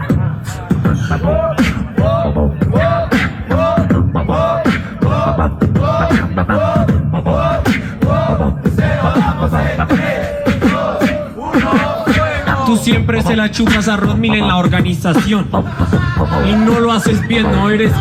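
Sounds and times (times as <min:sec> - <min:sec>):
beatboxing bass kicks and clicks: 0:00.0 - 0:18.0.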